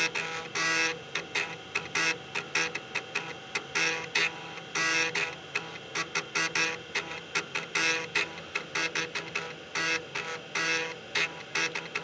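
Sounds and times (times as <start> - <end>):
floppy drive head ticking and buzzing: 0.0 - 12.0.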